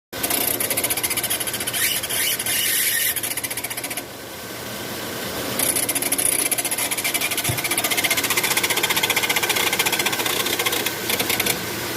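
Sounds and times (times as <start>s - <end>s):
car mechanical ticking clatter: 0.2s - 4.1s, 5.6s - 11.6s
smooth engine sound: 0.2s - 11.9s.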